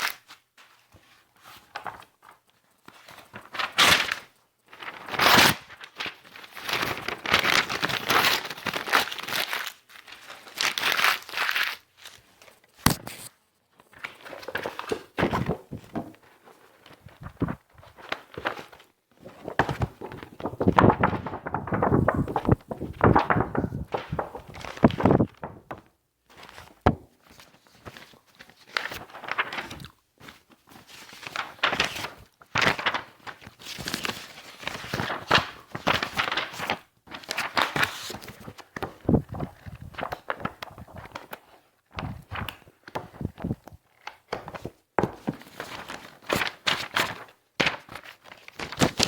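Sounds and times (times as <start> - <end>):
paper rustling and crinkling: 0.0 - 49.0.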